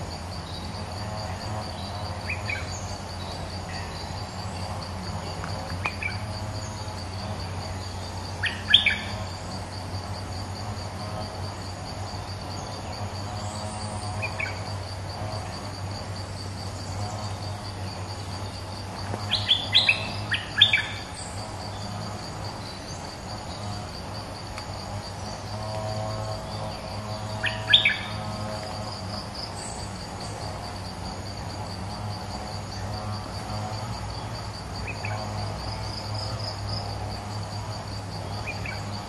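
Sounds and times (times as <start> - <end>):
pulsing insect buzz: 0.0 - 39.0.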